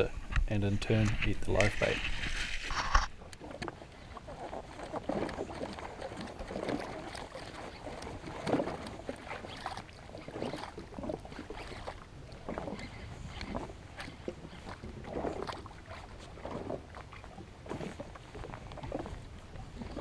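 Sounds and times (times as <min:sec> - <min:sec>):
waves lapping against hull: 0:00.0 - 0:20.0.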